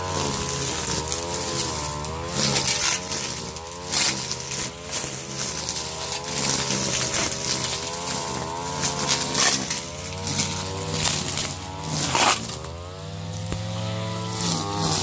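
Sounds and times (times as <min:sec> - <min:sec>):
brush cutter engine running: 0:00.0 - 0:15.0
trimmer line cutting grass: 0:00.0 - 0:15.0.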